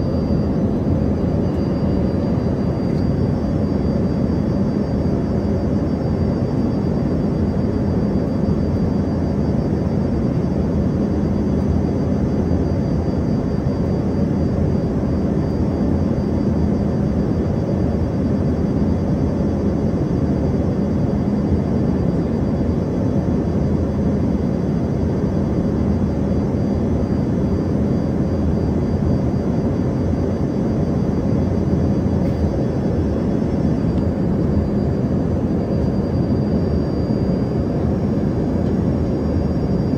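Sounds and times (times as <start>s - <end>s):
faint high whine: 0.0s - 39.9s
jet cabin drone: 0.0s - 39.9s.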